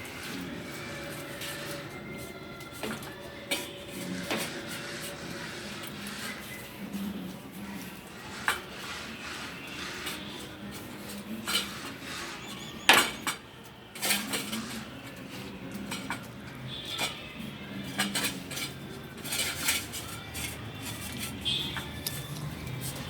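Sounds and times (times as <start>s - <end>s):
bowl clinking and scraping: 0.0s - 23.0s.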